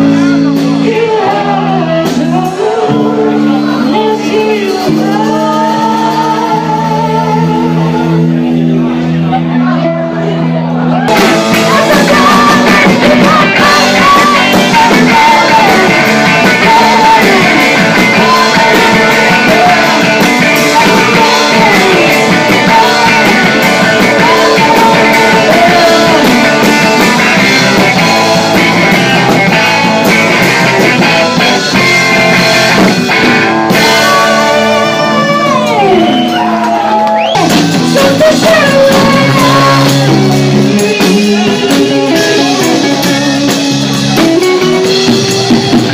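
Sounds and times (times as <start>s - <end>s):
live rock band playing: 0.0s - 45.9s
woman singing: 0.6s - 8.2s, 11.1s - 29.6s, 33.7s - 36.6s, 37.4s - 45.8s.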